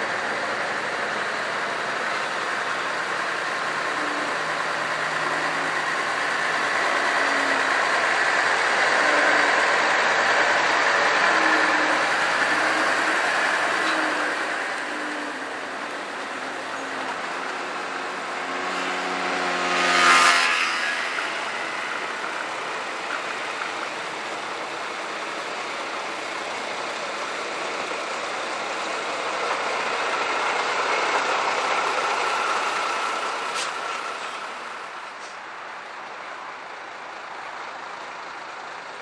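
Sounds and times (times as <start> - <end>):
diesel truck passing: 0.0 - 39.0
truck engine whine: 0.0 - 39.0.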